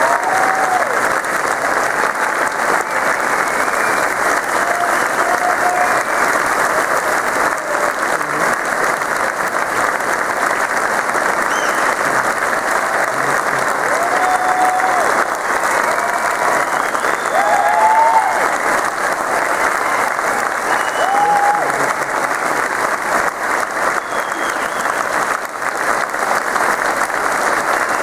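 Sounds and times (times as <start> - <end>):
audience applauding: 0.0 - 28.0
cheers: 0.0 - 28.0.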